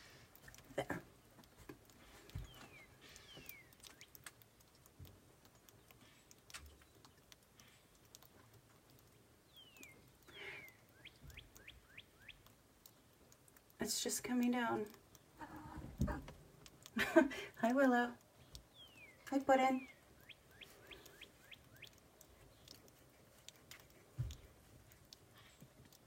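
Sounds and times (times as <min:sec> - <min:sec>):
faint clicks: 0:00.0 - 0:26.0.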